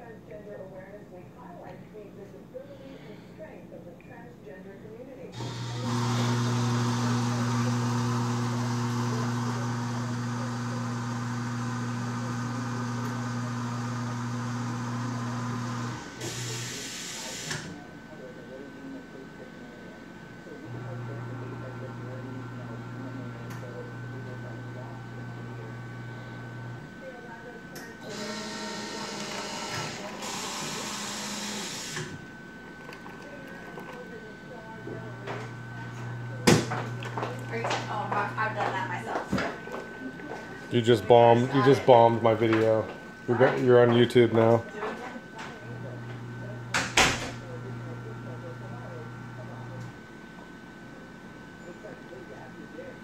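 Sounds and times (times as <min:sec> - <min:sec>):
coffee machine humming and hissing: 0:05.4 - 0:53.0.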